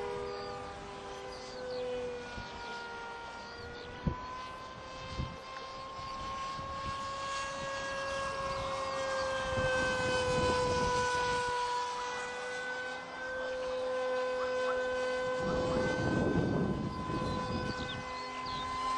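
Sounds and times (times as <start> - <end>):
model plane motor whine: 0.0 - 18.9.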